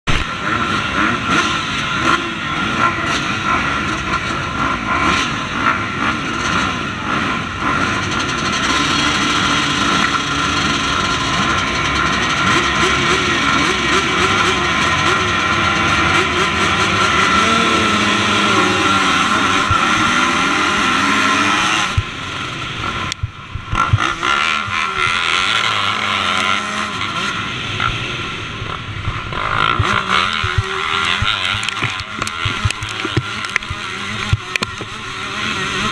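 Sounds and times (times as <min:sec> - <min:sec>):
motocross bikes revving: 0:00.1 - 0:35.9.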